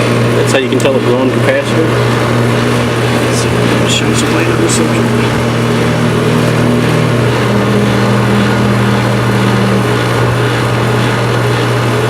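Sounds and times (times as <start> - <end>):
air conditioner fan humming: 0.0 - 12.0.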